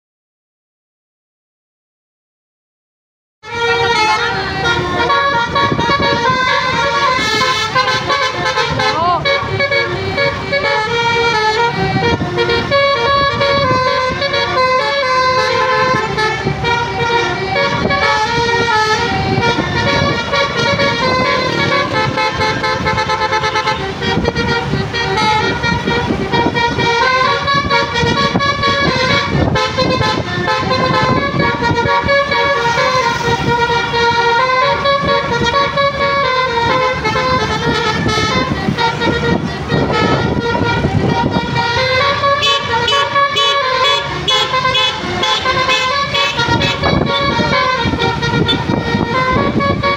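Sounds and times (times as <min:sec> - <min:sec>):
bus engine running: 0:03.4 - 0:49.9
multi-tone musical air horn: 0:03.4 - 0:49.9.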